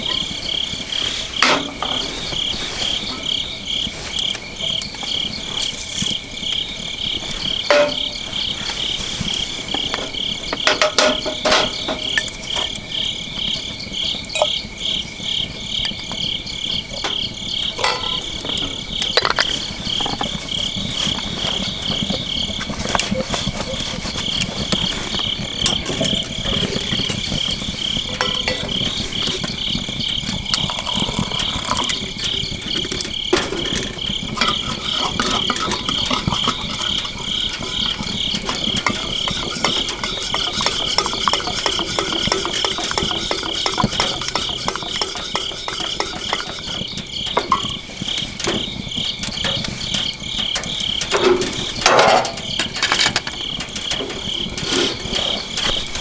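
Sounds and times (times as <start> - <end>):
campfire crackles: 0.0 - 56.0
crickets chirping: 0.0 - 56.0.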